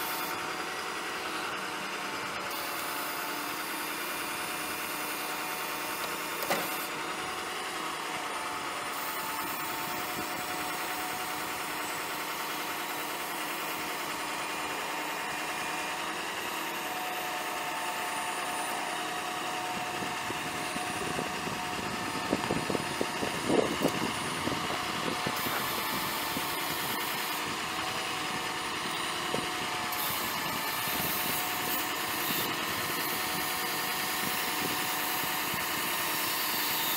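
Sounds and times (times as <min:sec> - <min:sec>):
diesel engine idling: 0:00.0 - 0:35.6.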